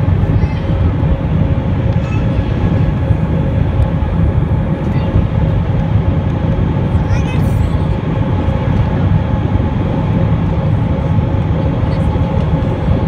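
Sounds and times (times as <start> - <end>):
aircraft engine roar: 0.0 - 13.0.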